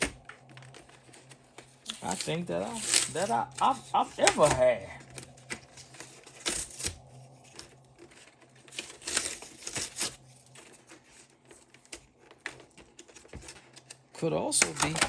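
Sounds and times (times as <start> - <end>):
plastic packaging tearing and crinkling: 0.0 - 15.0.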